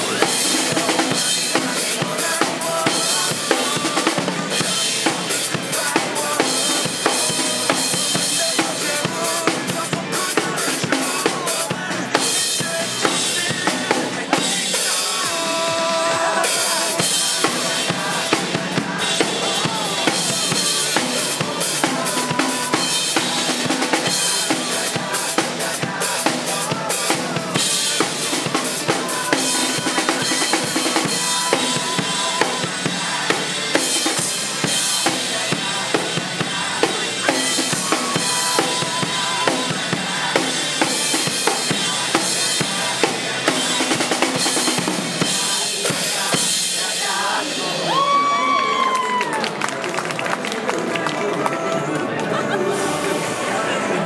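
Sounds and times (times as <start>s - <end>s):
drum kit rock beat: 0.0s - 48.3s
pop-rock backing track with singing: 0.0s - 49.4s.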